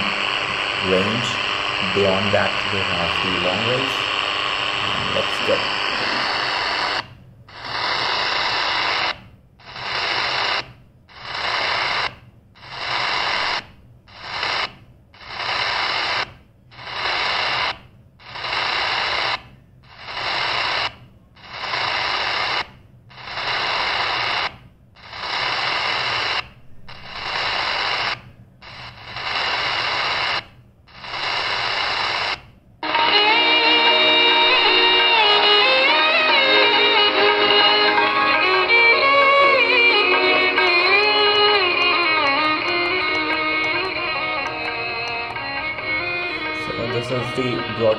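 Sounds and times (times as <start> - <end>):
radio static hissing: 0.0 - 10.6, 11.2 - 16.2, 16.8 - 22.6, 23.2 - 47.9.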